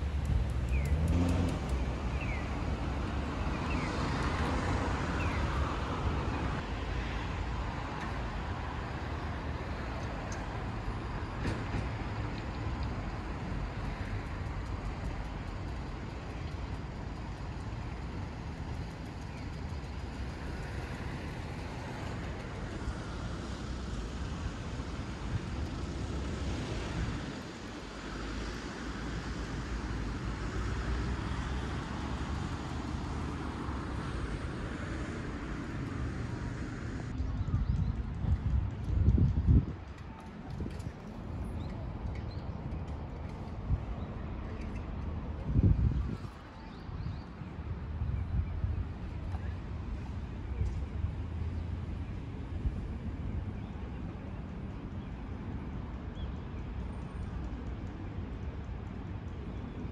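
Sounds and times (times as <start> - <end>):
city road traffic hum: 0.0 - 59.9.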